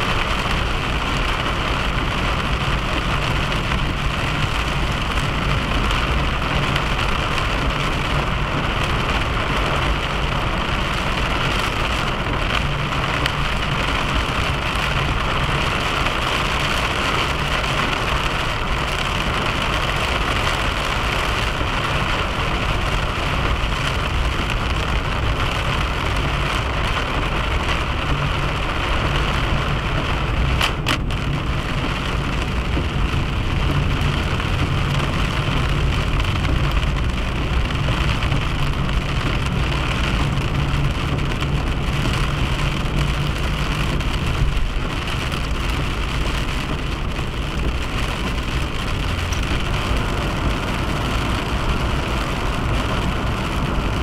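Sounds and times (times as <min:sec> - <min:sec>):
car tyre and engine road noise: 0:00.0 - 0:54.0.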